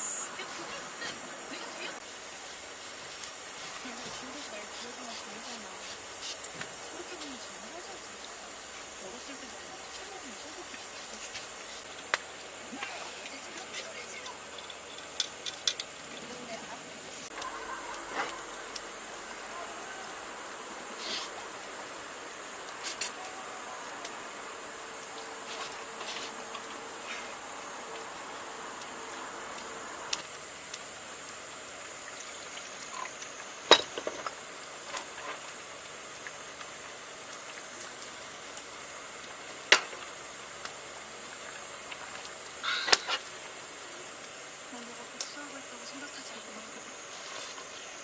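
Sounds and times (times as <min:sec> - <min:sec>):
insects droning: 0:00.0 - 0:48.0.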